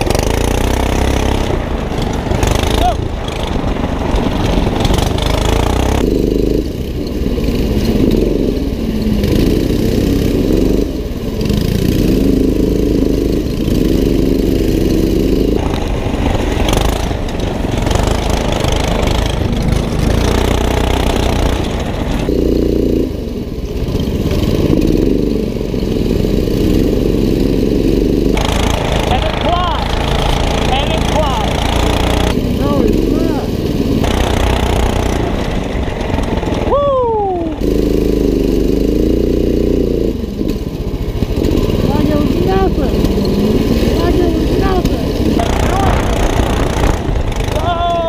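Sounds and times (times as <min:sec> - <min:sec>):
go-kart engine revving: 0:00.0 - 0:48.0.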